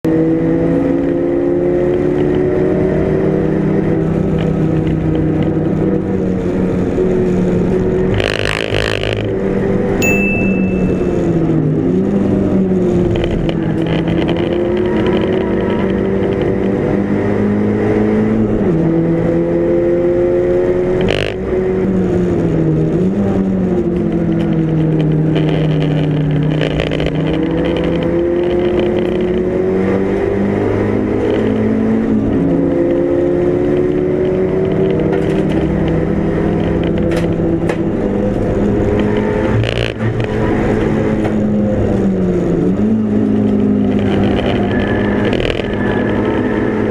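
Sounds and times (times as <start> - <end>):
race car engine running hard: 0.1 - 46.9.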